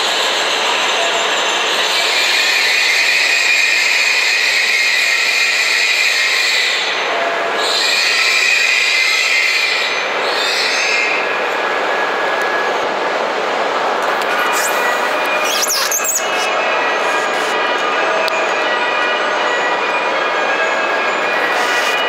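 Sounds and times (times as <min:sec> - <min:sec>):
high-pitched train whine: 0:00.0 - 0:22.0
train running slowly past: 0:00.0 - 0:22.0.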